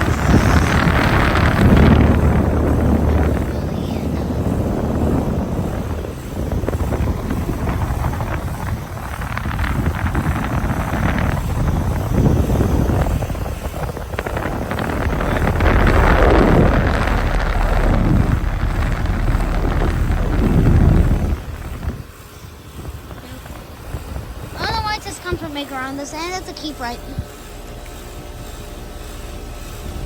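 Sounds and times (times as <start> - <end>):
compressor hum: 0.0 - 30.0
condenser fan whooshing: 0.0 - 30.0.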